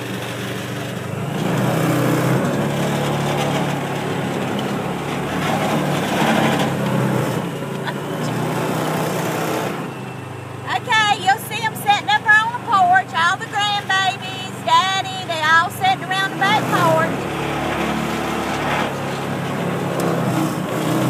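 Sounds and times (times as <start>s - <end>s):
small vehicle engine running: 0.0s - 21.0s.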